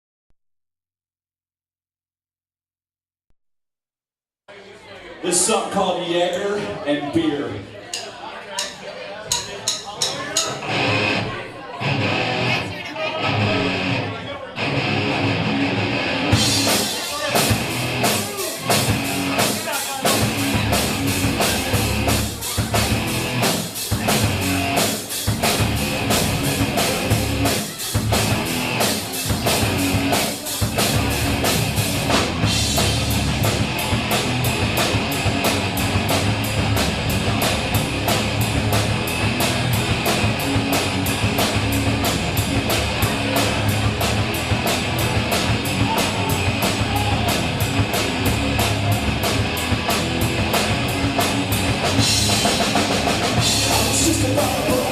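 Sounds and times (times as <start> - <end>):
rock music with drums and guitar: 10.2 - 54.9.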